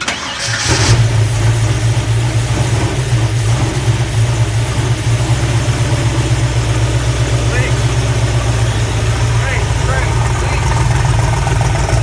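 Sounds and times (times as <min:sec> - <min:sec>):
engine starting and idling: 0:00.0 - 0:12.0.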